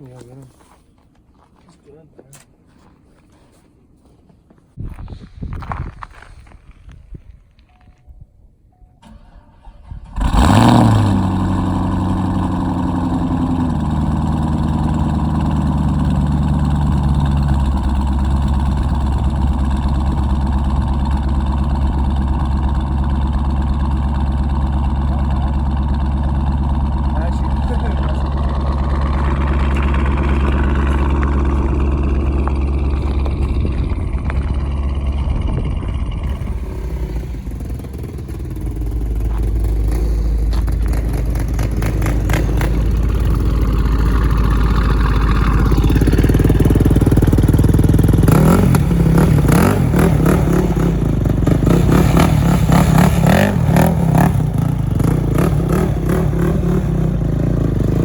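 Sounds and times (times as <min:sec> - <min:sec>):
car engine exhaust note: 0:10.1 - 0:58.0.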